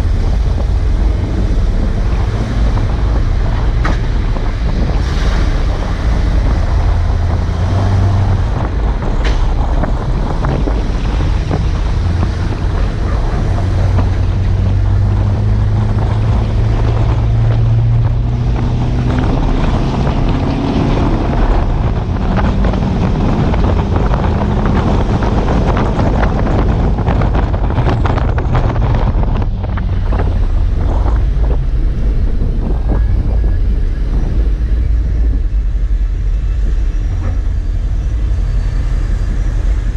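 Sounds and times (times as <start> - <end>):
truck engine rumbling: 0.0 - 39.9
wind buffeting microphone: 0.0 - 39.9.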